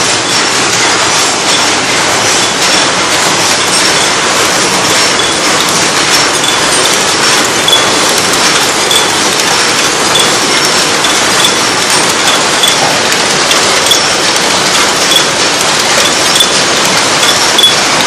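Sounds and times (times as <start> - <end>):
machine clattering: 0.0 - 18.0.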